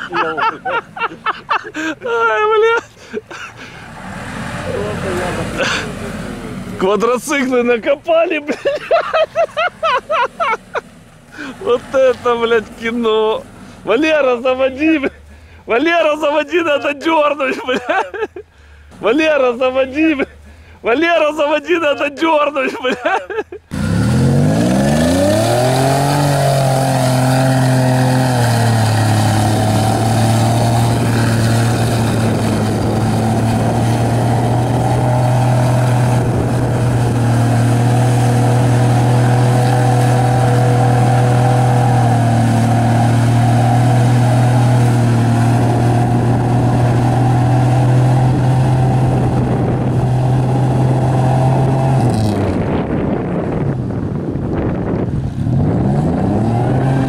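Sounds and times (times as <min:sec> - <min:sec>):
truck engine revving: 0:00.0 - 0:18.2, 0:18.8 - 0:57.0.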